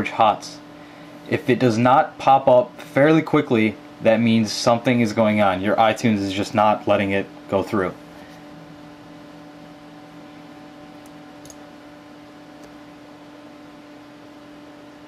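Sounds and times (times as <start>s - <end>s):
computer fan humming: 0.0s - 15.0s.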